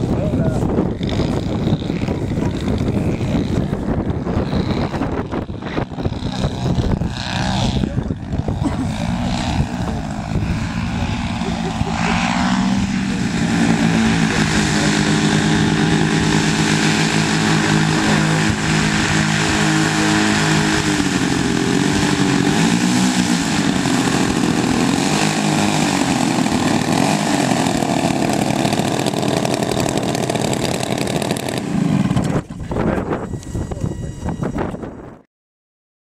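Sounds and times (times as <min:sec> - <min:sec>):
model plane engines running: 0:00.0 - 0:35.2.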